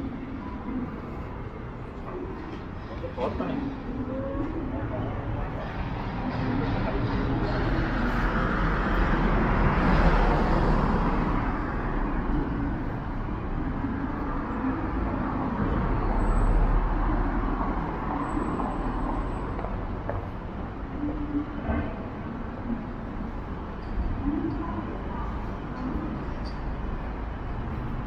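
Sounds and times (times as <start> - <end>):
road traffic hum: 0.0 - 28.0
vehicles passing: 0.0 - 28.0.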